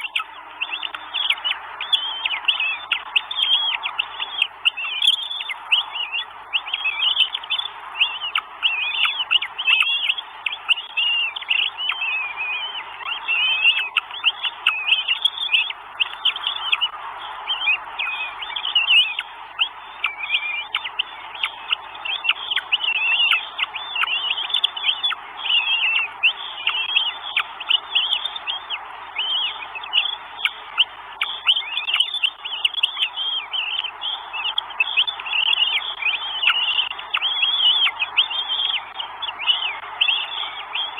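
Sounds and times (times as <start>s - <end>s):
bird chirps and whistles: 0.0s - 40.9s.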